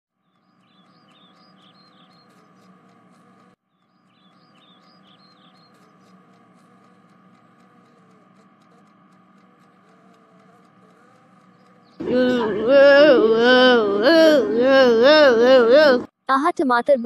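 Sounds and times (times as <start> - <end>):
steady hum: 0.3 - 16.1.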